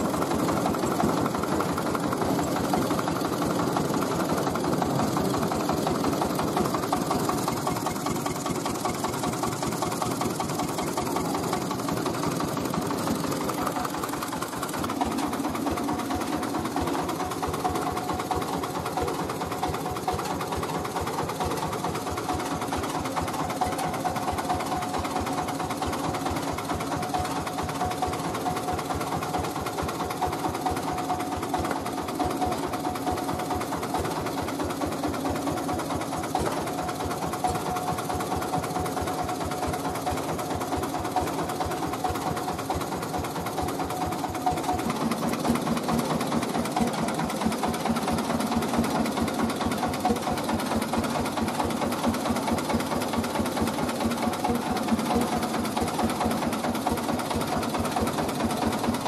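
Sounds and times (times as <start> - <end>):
machine engine idling with chatter: 0.0 - 59.0.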